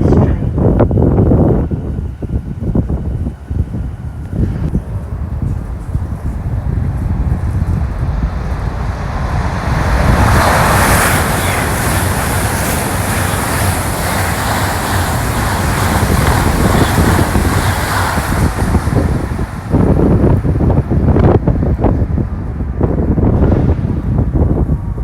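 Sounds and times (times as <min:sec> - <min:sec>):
high-speed train rushing past: 0:00.0 - 0:25.0
wind buffeting microphone: 0:00.0 - 0:25.0.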